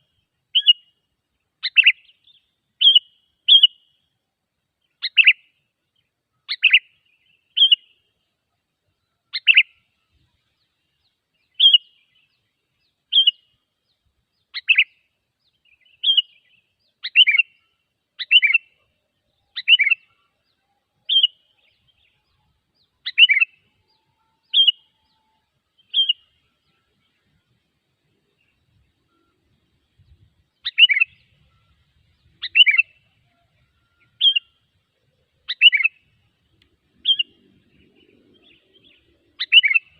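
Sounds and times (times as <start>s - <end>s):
bird calls: 0.0s - 1.0s, 1.6s - 4.0s, 6.4s - 8.1s, 9.0s - 13.6s, 14.4s - 39.9s.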